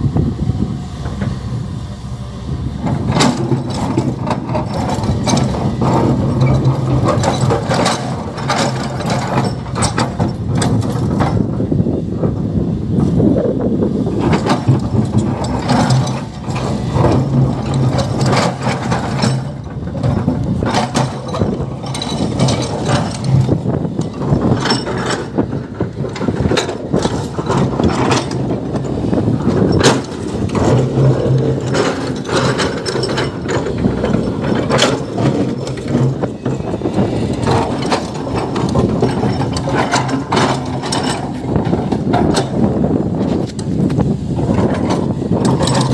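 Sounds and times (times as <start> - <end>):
excavator diesel engine under load: 0.0 - 45.9
soil clanking into dump truck: 0.6 - 45.9.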